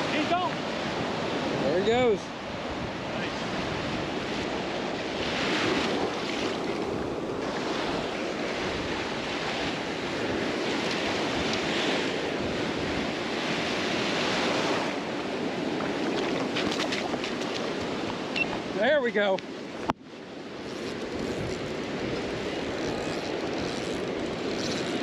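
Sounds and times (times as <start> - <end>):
surf breaking on sandy beach: 0.0 - 25.0.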